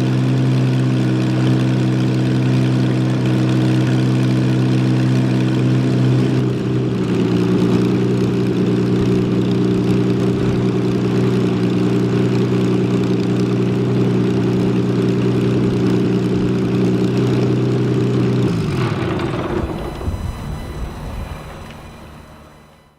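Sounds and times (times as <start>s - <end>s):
engine winding down: 0.0s - 22.9s
propeller plane engine running: 0.0s - 22.9s.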